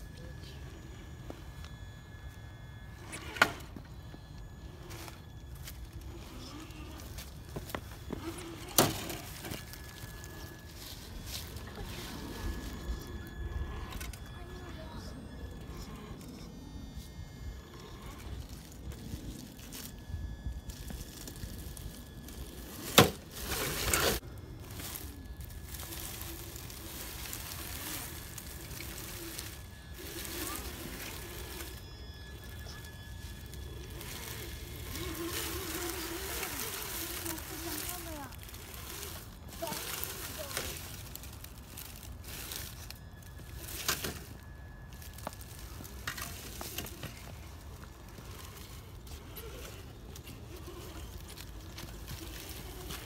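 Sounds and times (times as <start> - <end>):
thin drivetrain whine: 0.0 - 53.0
dry leaves crunching: 2.9 - 15.2, 17.7 - 53.0.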